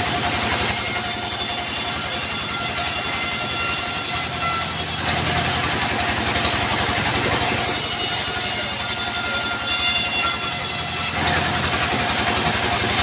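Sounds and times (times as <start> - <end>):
bandsaw mill engine running: 0.0 - 13.0
saw blade whine: 0.0 - 13.0.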